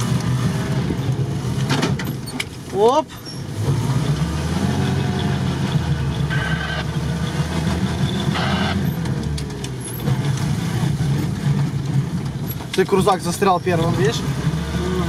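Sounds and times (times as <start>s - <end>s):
truck engine running at low revs: 0.0s - 15.0s.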